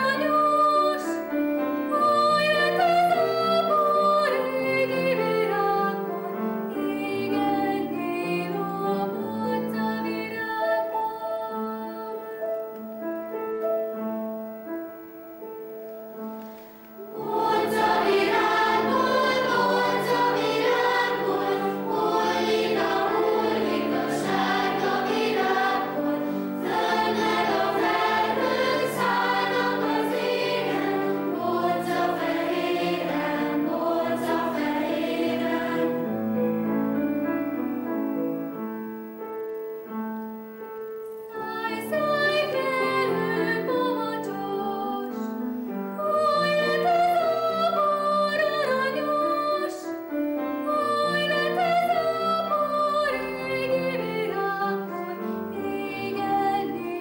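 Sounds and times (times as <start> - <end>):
children's choir singing: 0.0 - 12.6, 17.0 - 36.6, 41.3 - 45.4, 46.0 - 57.0.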